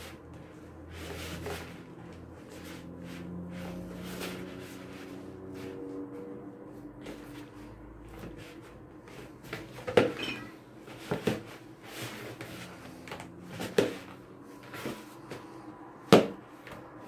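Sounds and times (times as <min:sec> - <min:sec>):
hands kneading dough: 0:00.0 - 0:17.0.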